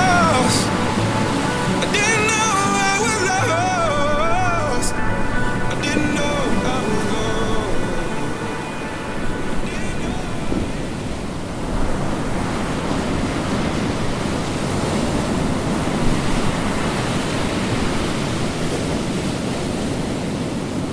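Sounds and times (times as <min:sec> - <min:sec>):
ocean waves and surf: 0:00.0 - 0:20.9.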